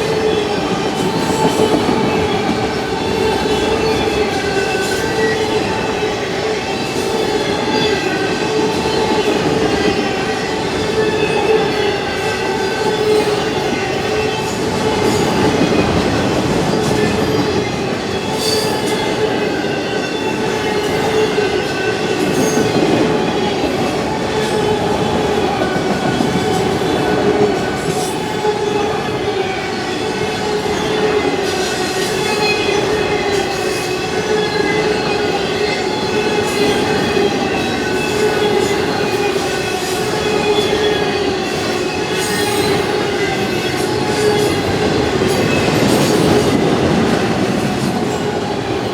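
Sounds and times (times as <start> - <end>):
train wheels clacking: 0.0 - 48.9.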